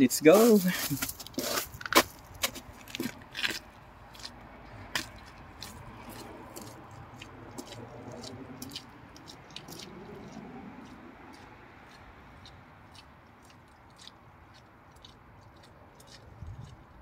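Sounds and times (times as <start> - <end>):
footsteps crunching on wet gravel: 0.2 - 17.0.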